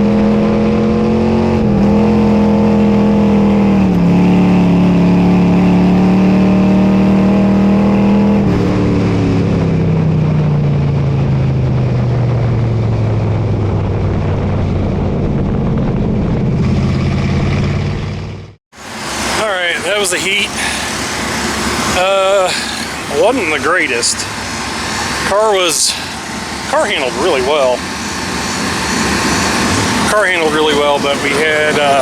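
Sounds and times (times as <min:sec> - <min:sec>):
race car engine running: 0:00.0 - 0:32.0.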